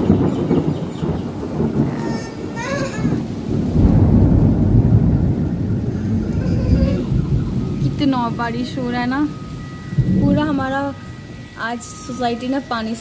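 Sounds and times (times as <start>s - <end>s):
heavy rain pouring: 0.0s - 13.0s
thunder rumbling: 0.0s - 13.0s.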